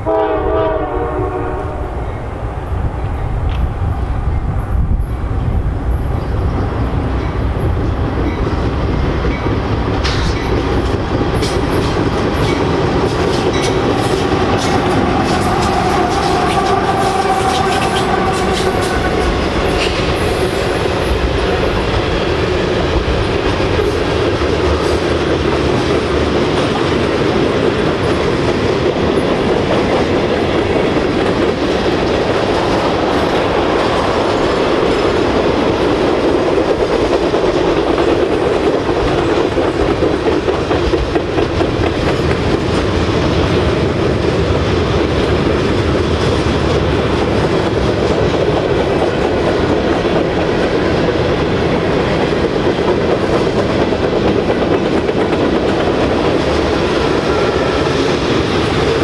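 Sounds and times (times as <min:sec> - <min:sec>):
diesel locomotives passing: 0:00.0 - 0:59.0
freight cars rumbling: 0:01.7 - 0:59.0
wheels clacking over rail joints: 0:06.5 - 0:59.0.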